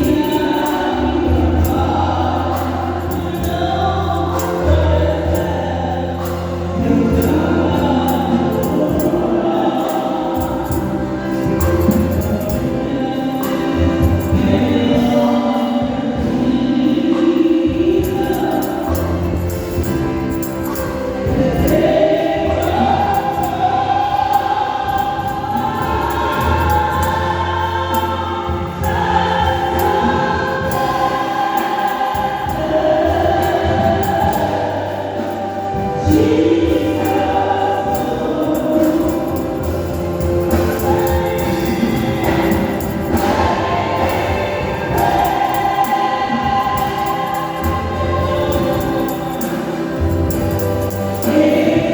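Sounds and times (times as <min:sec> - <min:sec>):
choir singing gospel: 0:00.0 - 0:51.9.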